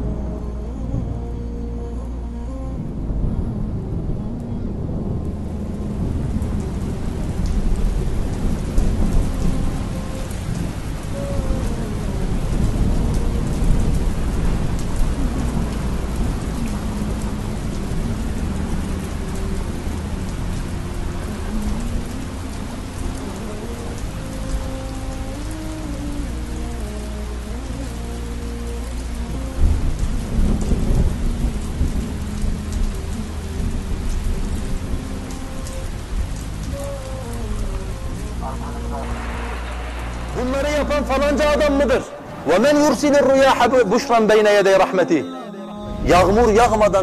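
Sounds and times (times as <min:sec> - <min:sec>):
heavy rain pouring: 0:00.0 - 0:47.0
thunder rumbling: 0:02.3 - 0:43.8.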